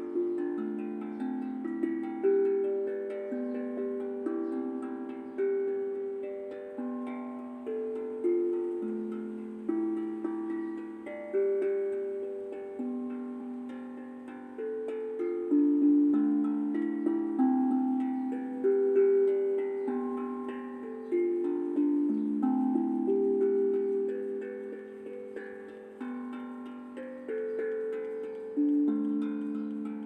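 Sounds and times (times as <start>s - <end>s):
tuned melodic drum: 0.0s - 30.0s.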